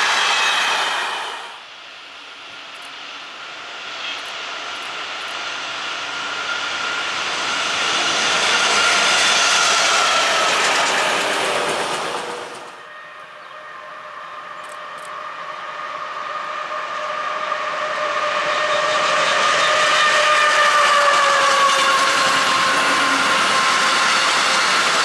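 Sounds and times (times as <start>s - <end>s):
train running with whine: 0.0s - 25.0s.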